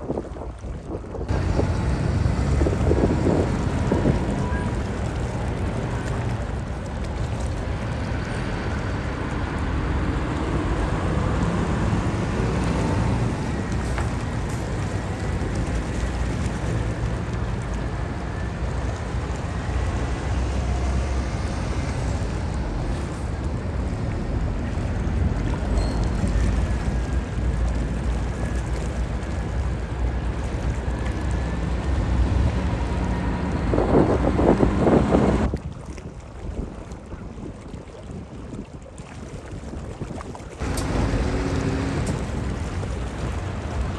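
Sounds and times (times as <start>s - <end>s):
wind noise on microphone: 0.0s - 43.9s
truck diesel engines running: 1.3s - 35.5s, 40.6s - 43.9s.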